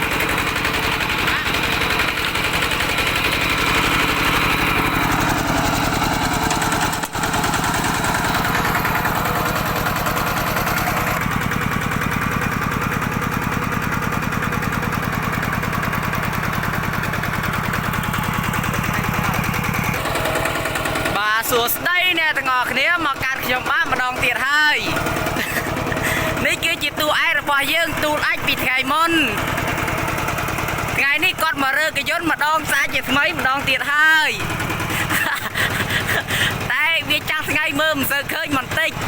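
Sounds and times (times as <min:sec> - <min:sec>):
tractor engine chugging: 0:00.0 - 0:39.0.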